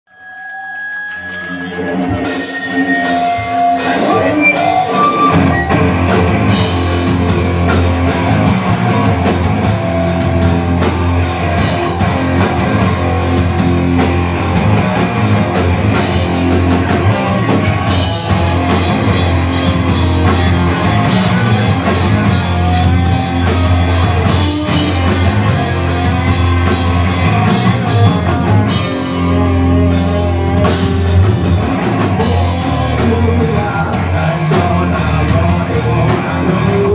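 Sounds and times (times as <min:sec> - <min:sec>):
electric guitars: 0:00.6 - 0:36.9
drum kit: 0:01.0 - 0:36.9
bass guitar: 0:01.4 - 0:36.9.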